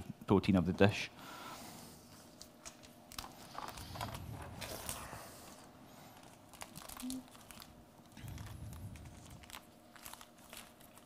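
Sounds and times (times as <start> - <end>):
faint crinkling and rustling: 2.1 - 11.0.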